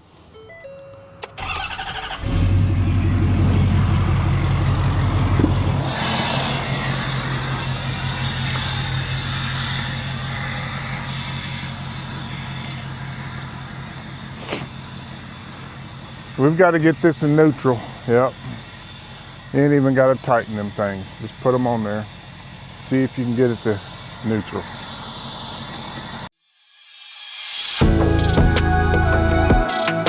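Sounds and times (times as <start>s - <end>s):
engine running and idling: 0.8s - 26.3s, 27.7s - 30.0s
engine starter cranking: 1.0s - 26.3s.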